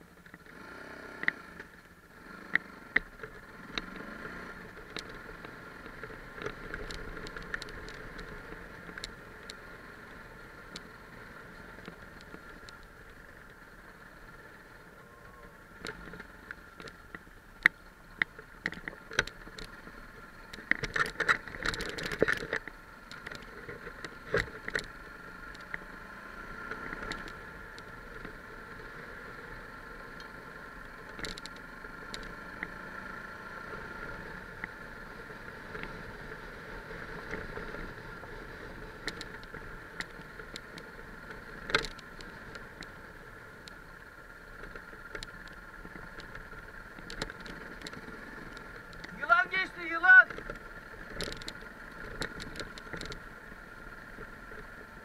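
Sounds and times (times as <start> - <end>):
motorcycle engine hum: 0.0 - 55.0
wind: 0.0 - 55.0.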